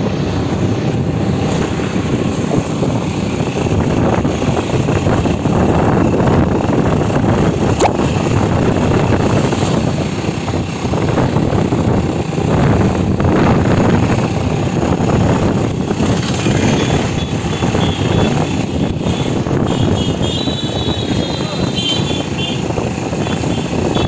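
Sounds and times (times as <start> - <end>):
vehicle engine and road noise: 0.0 - 24.0
wind on microphone: 0.0 - 24.0.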